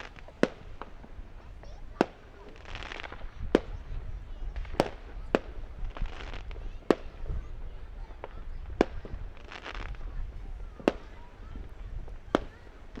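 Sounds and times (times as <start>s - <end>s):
firework bangs: 0.0s - 13.0s
firework hissing bursts: 0.0s - 13.0s.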